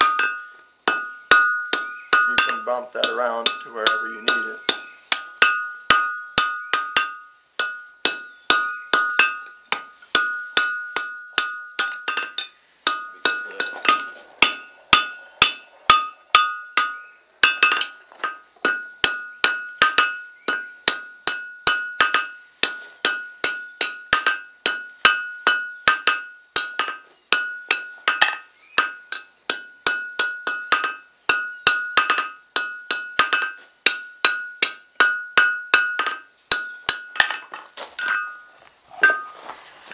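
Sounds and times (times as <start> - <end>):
hammer striking steel on anvil: 0.0 - 38.3.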